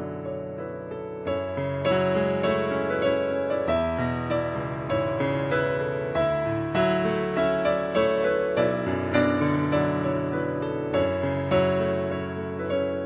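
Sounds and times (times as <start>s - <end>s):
slow gentle keyboard music: 0.0s - 13.0s.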